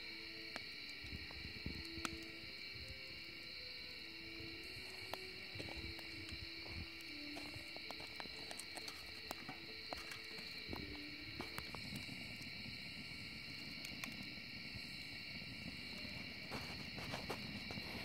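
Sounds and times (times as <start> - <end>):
insects chirring: 0.0 - 18.0
low rumble of flames: 0.0 - 18.0
wood fire crackling and popping: 0.0 - 18.0.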